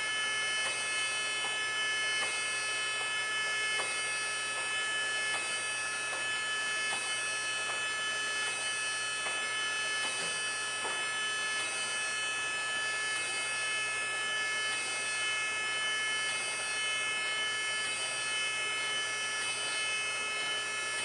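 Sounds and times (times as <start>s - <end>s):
surface grinder whine: 0.0s - 21.0s.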